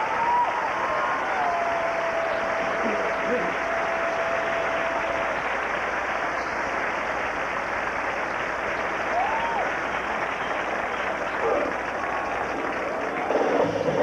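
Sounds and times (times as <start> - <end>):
crowd applauding and cheering: 0.0 - 14.0.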